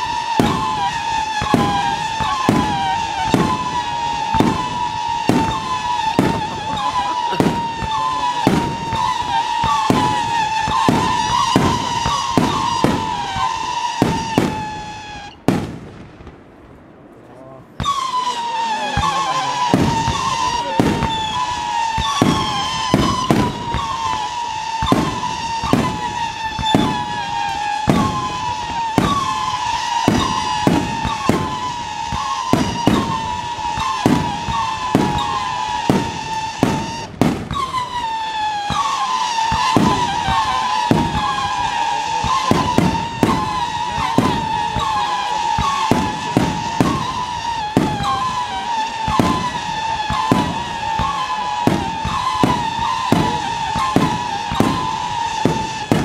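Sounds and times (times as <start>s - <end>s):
firework cracks: 0.0s - 56.0s
fireworks whistling shots: 0.0s - 56.0s.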